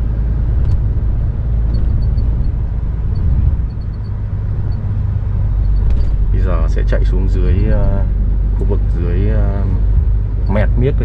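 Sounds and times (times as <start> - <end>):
diesel truck engine rumbling: 0.0 - 11.0
road noise: 0.0 - 11.0.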